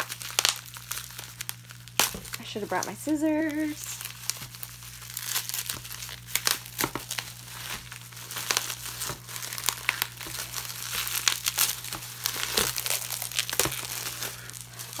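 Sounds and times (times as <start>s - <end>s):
packaging crinkling and ripping: 0.0s - 15.0s.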